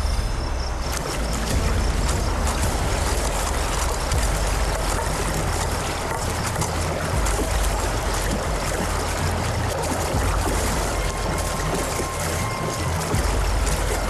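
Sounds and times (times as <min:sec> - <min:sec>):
deep rumble: 0:00.0 - 0:14.0
river water rushing: 0:00.0 - 0:14.0.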